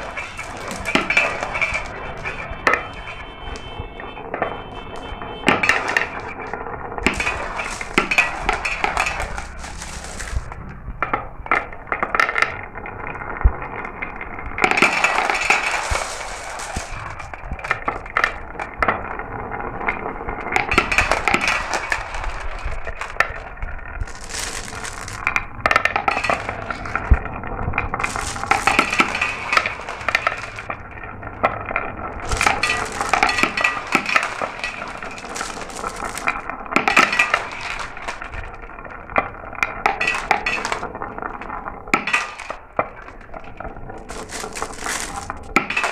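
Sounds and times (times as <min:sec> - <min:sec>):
marbles clicking on track: 0:00.0 - 0:19.1, 0:19.7 - 0:45.9
marbles rolling rushes: 0:00.0 - 0:45.9.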